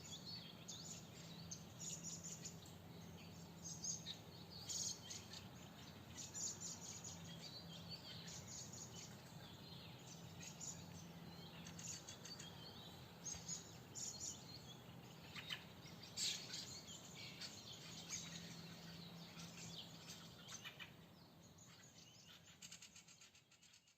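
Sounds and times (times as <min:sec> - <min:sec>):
songbirds singing and chirping: 0:00.0 - 0:23.9.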